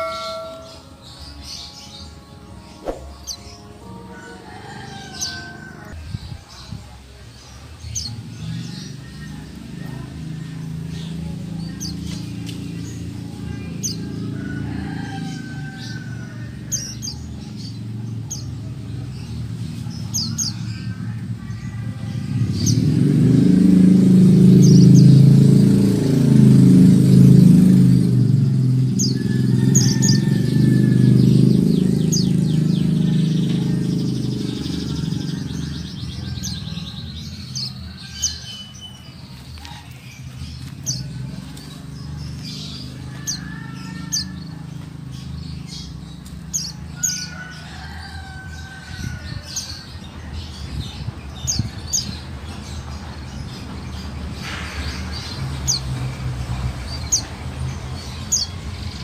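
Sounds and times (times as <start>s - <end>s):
low engine rumble: 0.0s - 59.0s.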